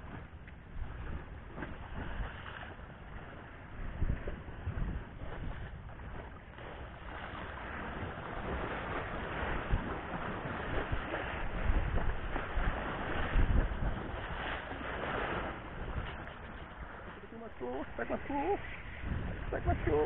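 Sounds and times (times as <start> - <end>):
sea waves: 0.0 - 20.0
wind buffeting microphone: 0.0 - 20.0.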